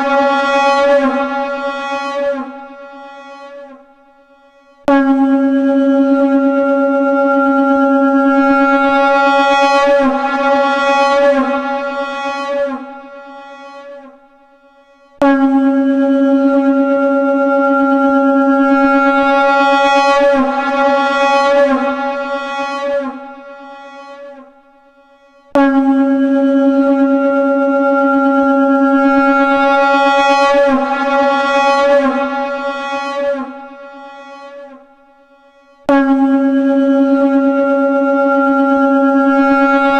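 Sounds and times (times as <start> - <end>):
conch shell long held note: 0.0 - 39.9.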